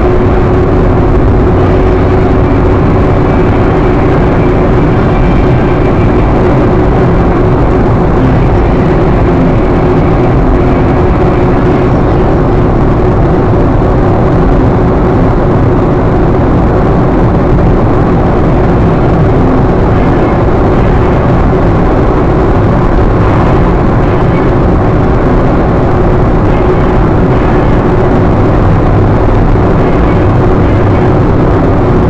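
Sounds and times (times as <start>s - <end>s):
car engine hum: 0.0s - 32.0s
tyre and road rumble: 0.0s - 32.0s.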